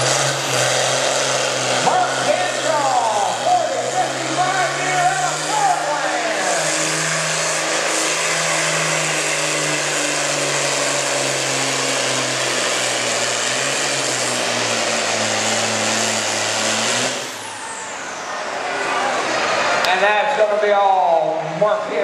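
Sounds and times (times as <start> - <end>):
diesel tractor engine at full throttle: 0.0 - 22.0.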